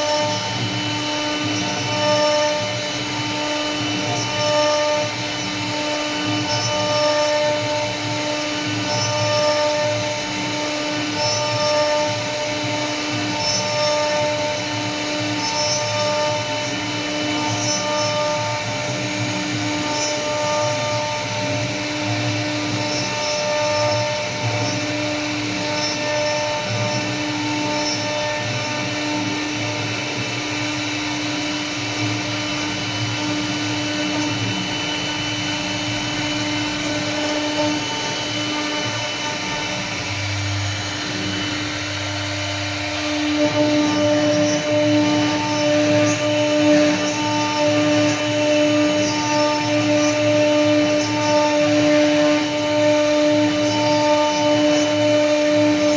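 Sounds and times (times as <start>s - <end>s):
wood router whining while carving: 0.0s - 55.9s.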